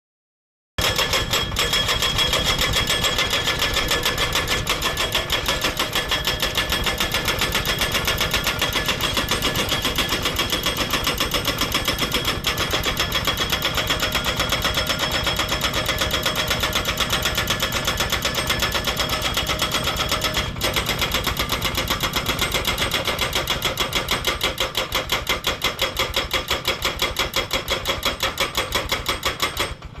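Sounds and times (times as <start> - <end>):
pile driver hammering: 0.8 - 30.0.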